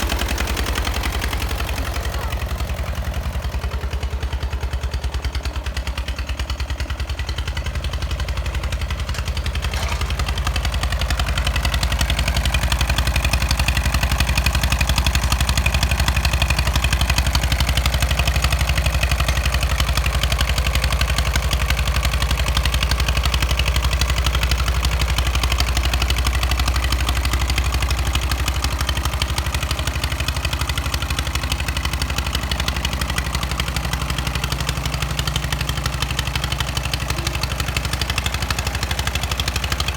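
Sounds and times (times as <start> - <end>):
tractor diesel engine chugging: 0.0 - 39.9.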